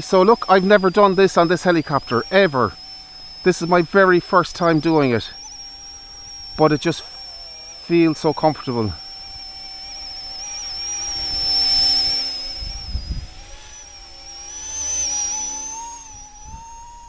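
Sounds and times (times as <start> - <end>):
toy helicopter rotors whining: 0.0 - 17.0.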